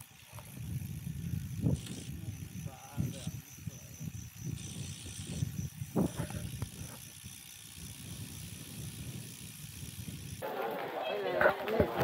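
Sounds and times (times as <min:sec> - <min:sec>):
wind buffeting microphone: 0:00.0 - 0:10.4
road bike rolling: 0:00.0 - 0:12.0.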